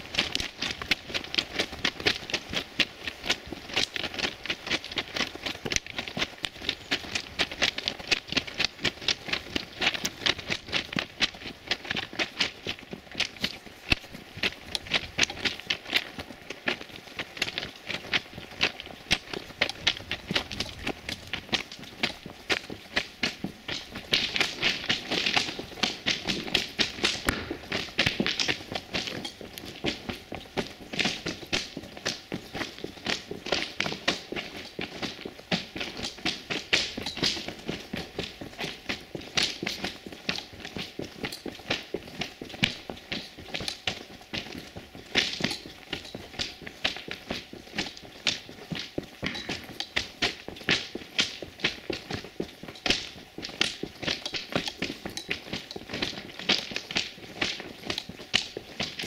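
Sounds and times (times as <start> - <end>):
footsteps crunching on gravel: 0.0 - 59.0.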